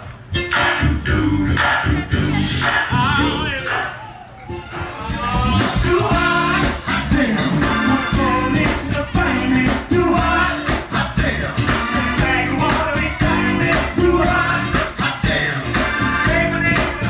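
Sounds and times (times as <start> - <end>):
drums: 0.0 - 17.0
person singing: 0.4 - 17.0.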